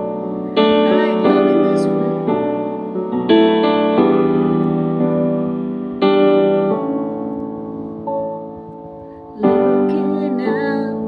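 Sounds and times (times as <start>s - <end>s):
keyboard chords ringing: 0.0s - 11.0s.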